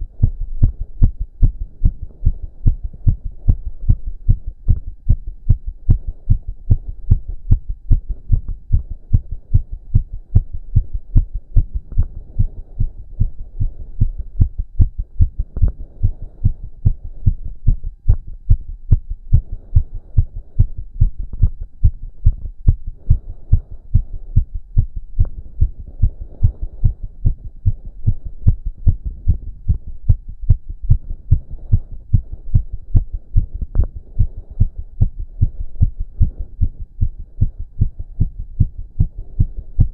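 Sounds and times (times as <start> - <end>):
heart beating fast: 0.0 - 39.9.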